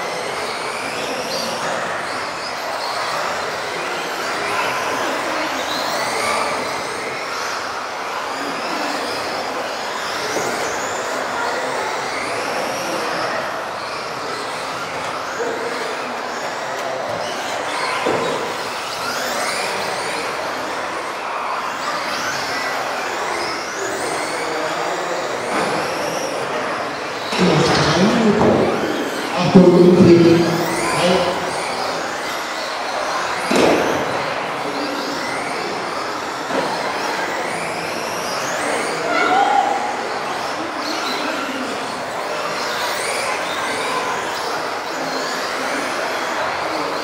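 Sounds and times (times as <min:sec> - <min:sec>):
rc car motors whining: 0:00.0 - 0:47.0.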